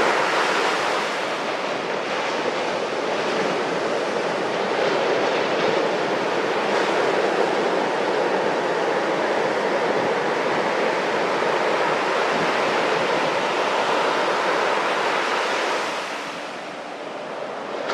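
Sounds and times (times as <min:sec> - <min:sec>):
ocean waves breaking: 0:00.0 - 0:17.9.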